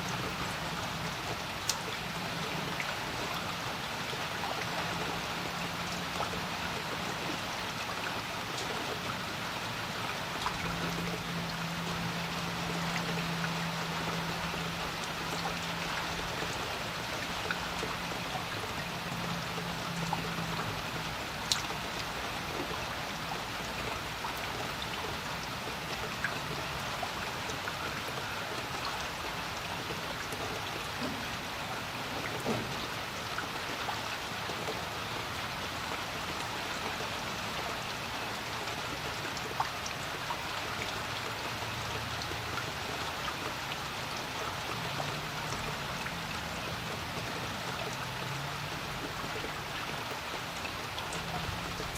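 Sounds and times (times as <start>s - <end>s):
rain falling on a creek: 0.0s - 51.9s
raindrops ticking: 0.0s - 51.9s.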